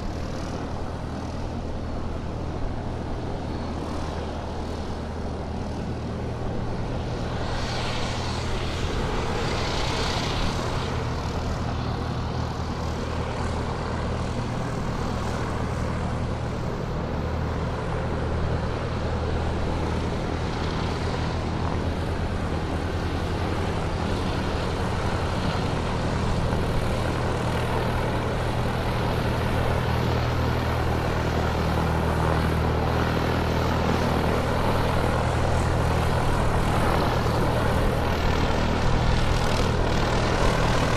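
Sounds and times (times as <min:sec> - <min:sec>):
airplane engines droning: 0:00.0 - 0:40.9.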